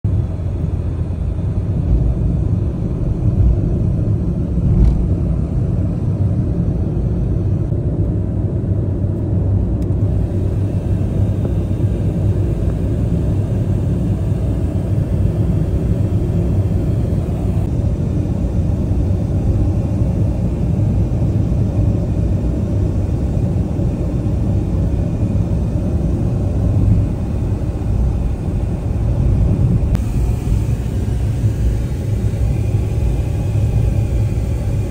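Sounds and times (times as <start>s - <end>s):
road and tyre rumble inside car: 0.1s - 34.9s.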